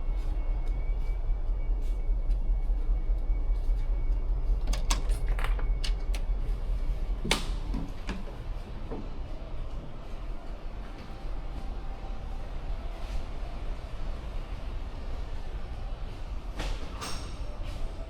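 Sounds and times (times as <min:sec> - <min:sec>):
low ambient rumble: 0:00.0 - 0:18.0.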